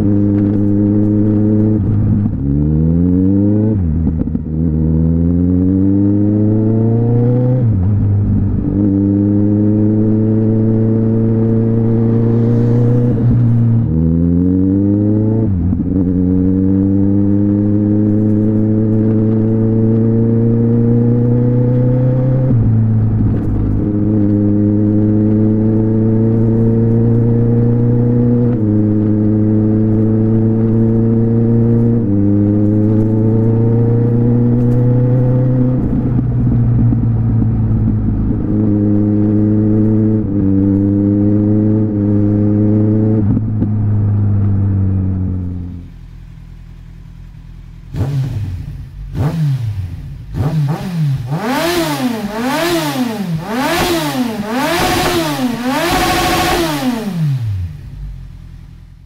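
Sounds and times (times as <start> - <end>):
motorcycle engine revving in blips: 0.0 - 59.0
motorcycle engine running: 0.0 - 59.0.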